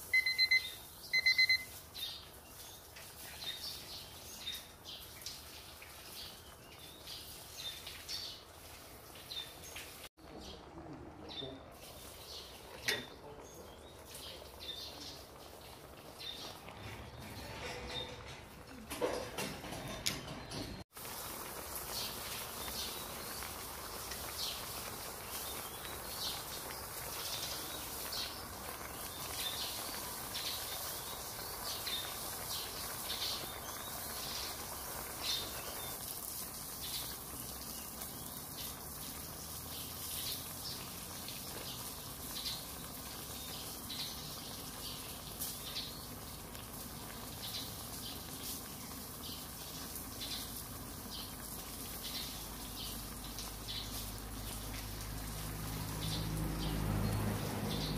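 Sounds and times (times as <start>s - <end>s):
hot pot bubbling and popping: 0.0s - 57.9s.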